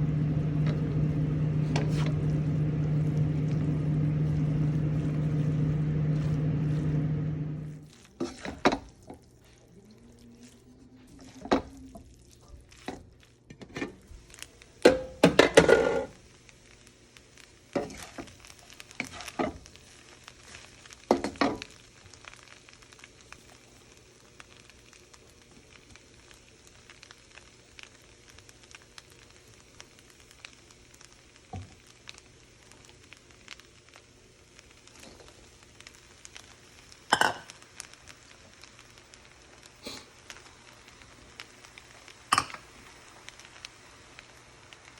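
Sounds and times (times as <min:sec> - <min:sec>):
stir-fry sizzling in a pan: 0:00.0 - 0:44.9.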